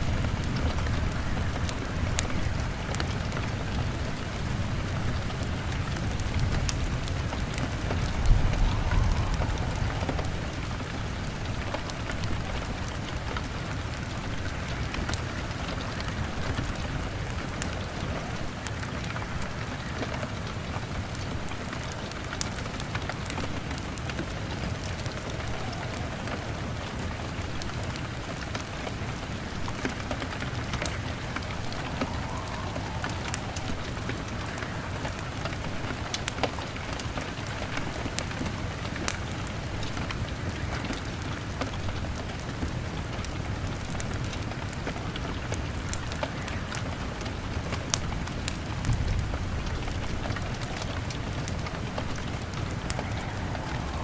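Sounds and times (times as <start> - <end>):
log fire crackling: 0.0 - 54.0
rain on a window: 0.0 - 54.0.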